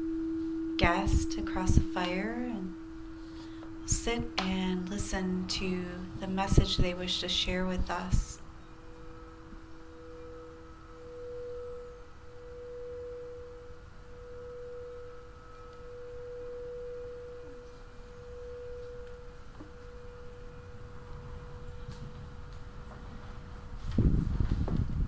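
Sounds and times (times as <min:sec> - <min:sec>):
crystal singing bowls ringing: 0:00.0 - 0:23.6.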